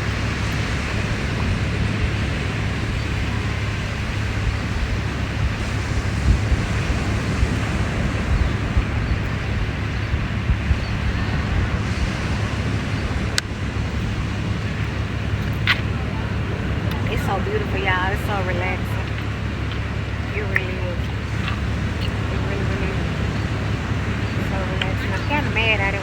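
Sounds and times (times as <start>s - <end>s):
surf washing on beach: 0.0s - 26.0s
wind buffeting microphone: 0.0s - 26.0s.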